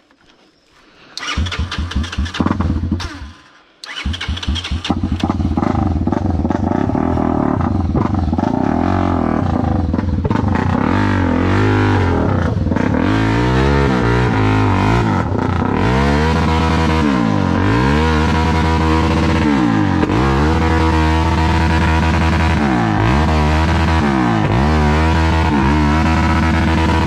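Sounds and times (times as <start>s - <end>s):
motorcycle engine starting and revving: 1.0s - 27.0s.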